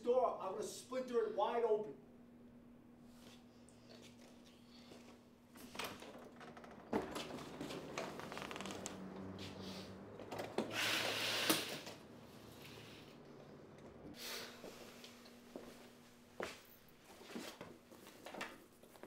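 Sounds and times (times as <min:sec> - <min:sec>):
steady low hum: 0:00.0 - 0:17.3.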